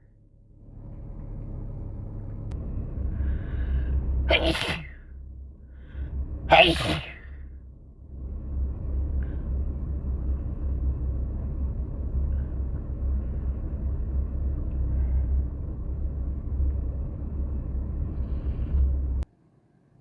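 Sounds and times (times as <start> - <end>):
steady low rumble: 0.0 - 19.3.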